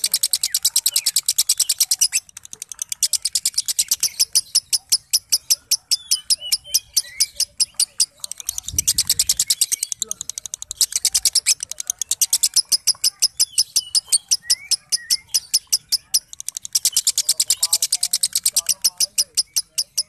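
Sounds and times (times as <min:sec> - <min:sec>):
lovebird chattering: 0:00.0 - 0:20.0.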